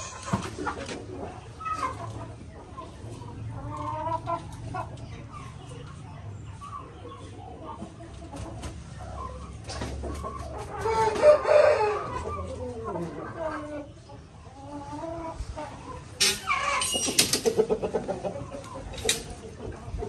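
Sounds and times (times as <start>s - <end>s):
rooster clucking: 0.0s - 20.0s.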